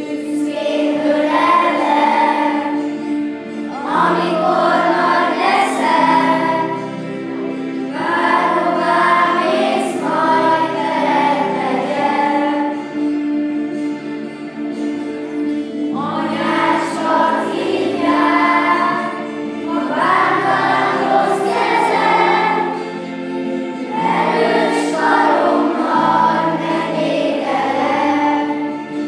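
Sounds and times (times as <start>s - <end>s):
children's choir singing: 0.0s - 29.0s
instrumental accompaniment: 0.0s - 29.0s.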